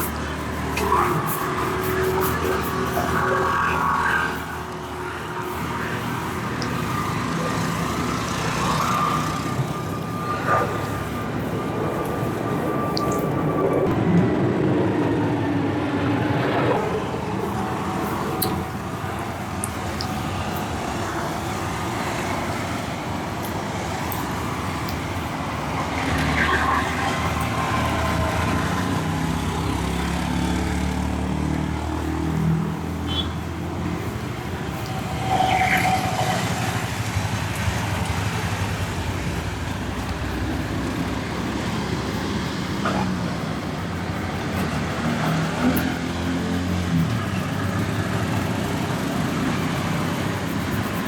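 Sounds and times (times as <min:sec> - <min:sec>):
rumble of passing vehicles: 0:00.0 - 0:51.0.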